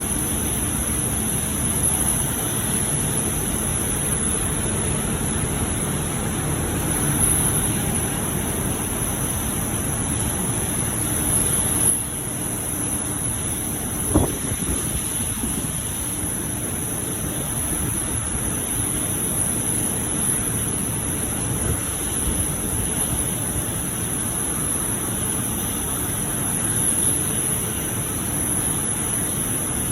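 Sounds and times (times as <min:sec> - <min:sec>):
constant high whine: 0:00.0 - 0:29.9.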